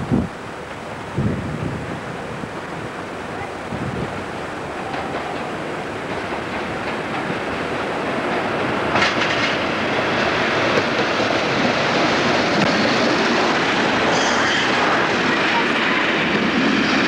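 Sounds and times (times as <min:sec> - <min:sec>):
diesel locomotive engine: 0:00.0 - 0:17.0.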